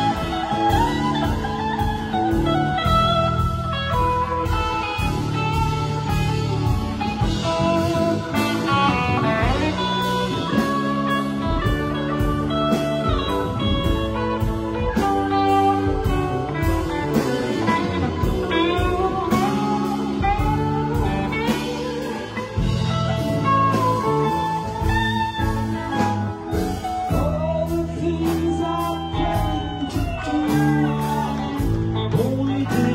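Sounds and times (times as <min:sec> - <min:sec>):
drum kit with cymbal strikes: 0:00.0 - 0:32.9
keyboards: 0:00.0 - 0:32.9
lead electric guitar: 0:00.0 - 0:32.9
second guitar: 0:00.0 - 0:32.9.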